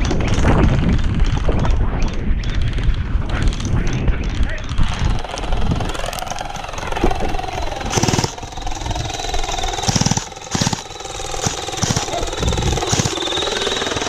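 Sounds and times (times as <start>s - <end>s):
gel blaster firing bursts: 2.4s - 14.0s.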